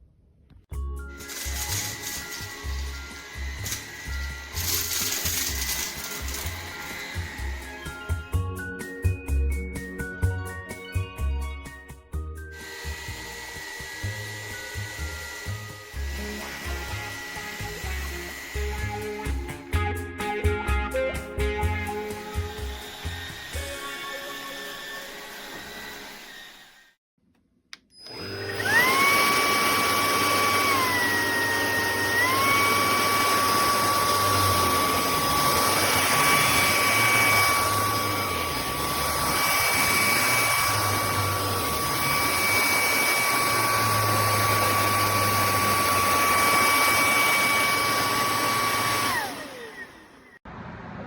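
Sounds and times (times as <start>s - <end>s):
vacuum cleaner motor whine: 1.0s - 8.4s, 12.4s - 19.5s, 21.8s - 27.0s, 27.9s - 50.4s.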